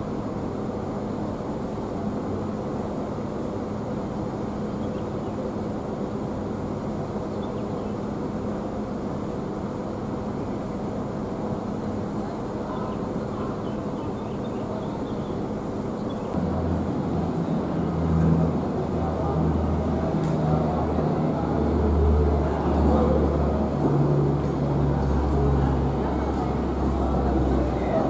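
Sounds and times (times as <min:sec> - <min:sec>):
diesel bus engine idling: 0:00.0 - 0:28.0.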